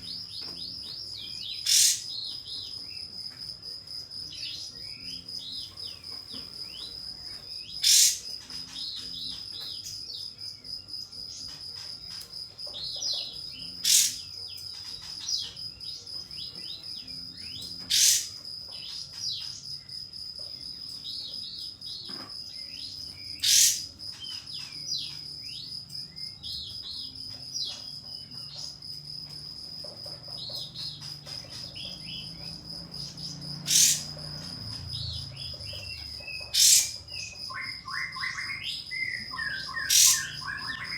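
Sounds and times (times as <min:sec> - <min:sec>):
sharp bird calls: 0:00.0 - 0:03.1, 0:04.4 - 0:10.1, 0:12.8 - 0:19.7, 0:21.3 - 0:27.8, 0:30.3 - 0:40.9
bird chirping: 0:00.0 - 0:40.9
insect trilling: 0:00.0 - 0:40.9.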